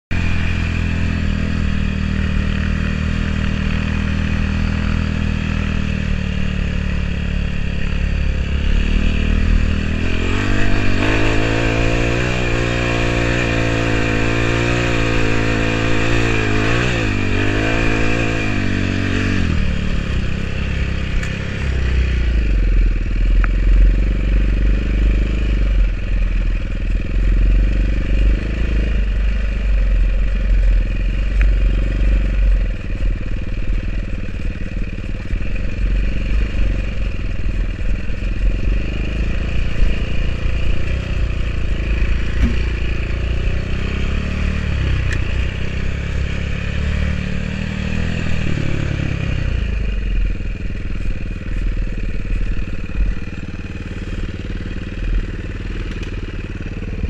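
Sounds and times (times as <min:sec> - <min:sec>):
motorcycle engine revving: 0:00.1 - 0:57.0.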